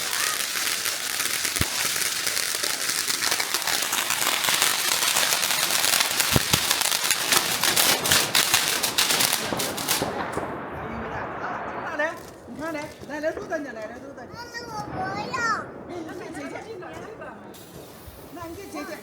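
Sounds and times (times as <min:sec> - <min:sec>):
deep firework thuds: 0:00.0 - 0:19.0
fireworks crackling: 0:00.0 - 0:19.0.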